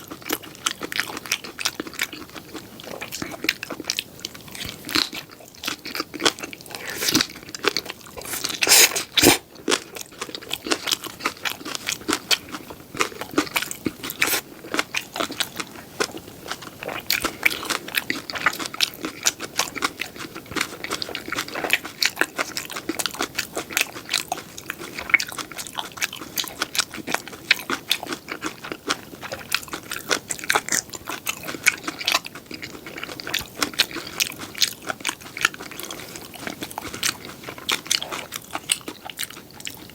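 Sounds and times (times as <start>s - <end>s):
chewing and biting pancake: 0.0s - 39.9s.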